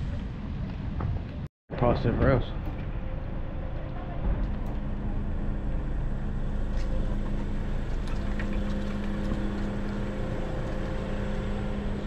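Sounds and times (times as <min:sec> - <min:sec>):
low machine hum: 0:02.0 - 0:12.0.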